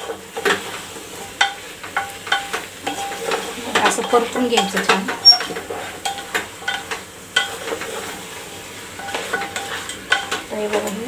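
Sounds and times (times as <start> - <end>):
chicken and onion sizzling: 0.0 - 11.0
spatula scraping pot: 0.0 - 11.0.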